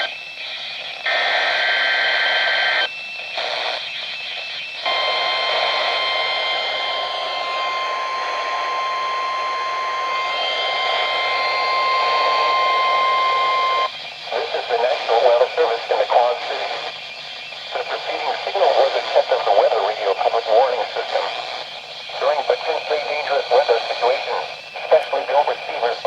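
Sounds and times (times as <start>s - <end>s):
radio hiss: 0.0s - 4.0s, 4.8s - 26.0s
steady warning alarm tone: 0.0s - 26.0s.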